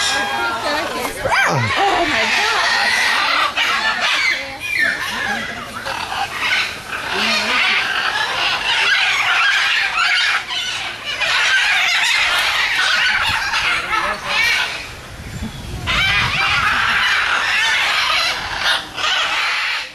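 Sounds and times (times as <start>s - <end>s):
birds squawking and chattering: 0.0s - 19.9s.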